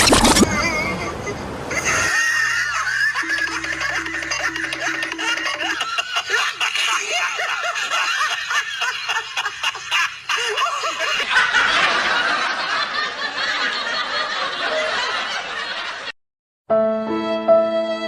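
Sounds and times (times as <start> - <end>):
people laughing: 0.4 - 16.1.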